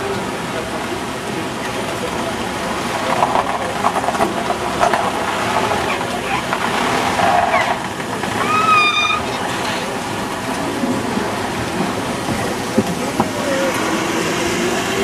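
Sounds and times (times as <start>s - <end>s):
distant crowd chatter: 0.0s - 15.0s.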